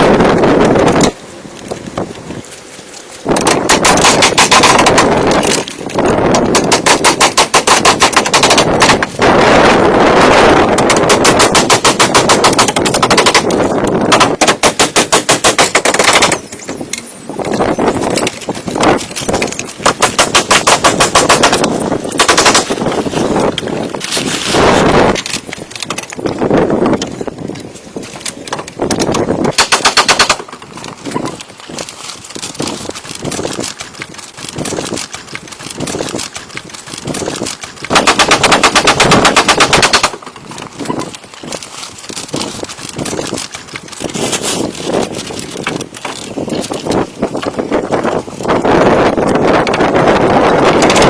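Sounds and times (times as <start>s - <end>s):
woodworking tool rapid rattle: 3.3s - 51.0s.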